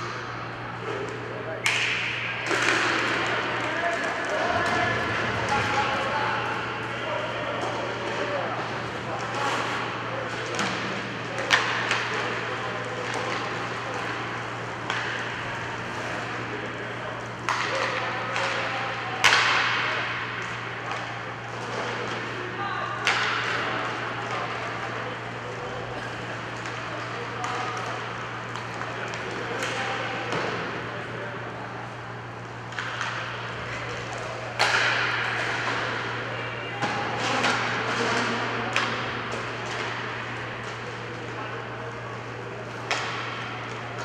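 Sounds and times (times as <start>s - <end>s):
rink crowd din with low hum: 0.0s - 44.0s
hockey sticks and puck clacking: 0.8s - 44.0s.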